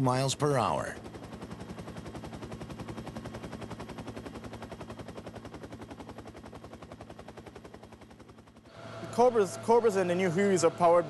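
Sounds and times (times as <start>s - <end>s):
helicopter rotor blade chop: 0.0s - 11.0s.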